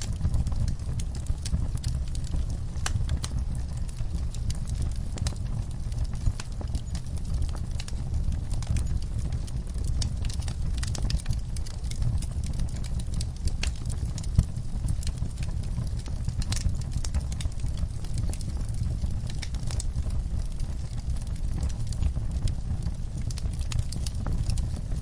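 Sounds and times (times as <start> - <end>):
low fire rumble: 0.0 - 25.0
wood fire crackling: 0.0 - 25.0.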